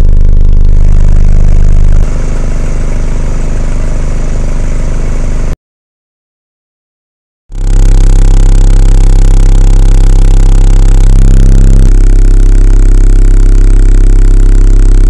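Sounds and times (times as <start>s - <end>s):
distorted deep bass drone: 0.0s - 5.6s, 7.5s - 15.0s.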